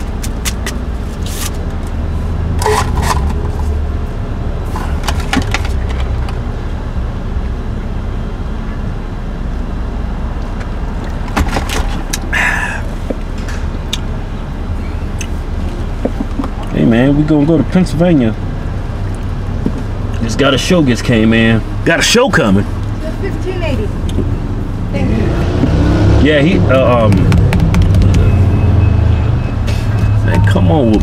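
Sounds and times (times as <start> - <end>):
car engine idling: 0.0 - 25.2, 26.3 - 31.0.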